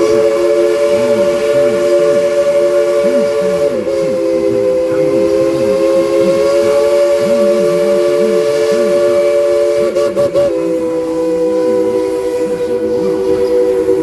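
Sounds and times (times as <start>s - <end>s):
steam whistle blast: 0.0s - 14.0s.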